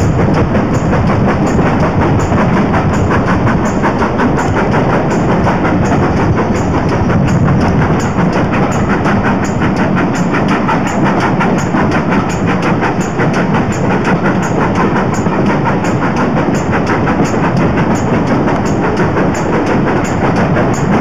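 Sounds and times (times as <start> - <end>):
coaches rumbling on rails: 0.0 - 21.0
steam locomotive exhaust beats: 0.0 - 21.0.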